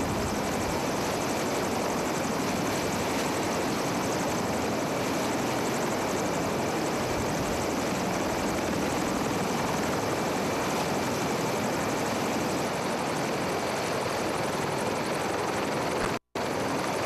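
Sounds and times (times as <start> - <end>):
helicopter engines and rotor: 0.0 - 17.0.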